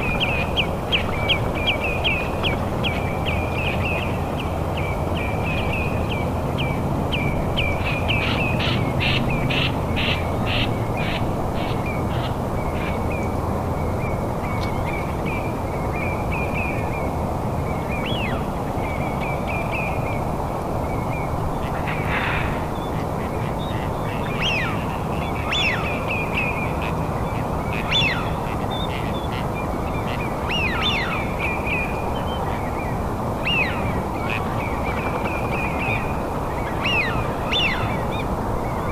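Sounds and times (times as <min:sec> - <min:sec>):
sharp bird calls: 0:00.0 - 0:17.1, 0:21.0 - 0:38.9
harsh bird calls: 0:00.0 - 0:20.3, 0:20.9 - 0:38.9
low rushing background noise: 0:00.0 - 0:38.9.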